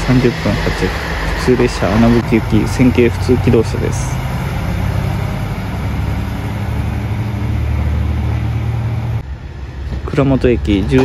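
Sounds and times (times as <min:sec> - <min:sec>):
diesel railcar engine drone: 0:00.0 - 0:11.0.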